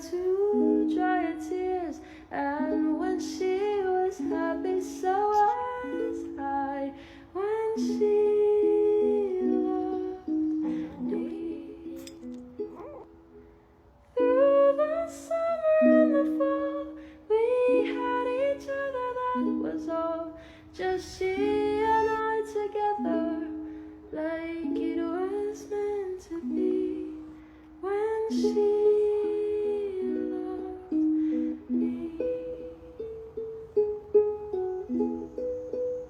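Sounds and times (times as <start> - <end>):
soft hummed vocal melody: 0.0 - 13.4, 14.1 - 36.0
ukulele plucking chords: 0.0 - 36.0.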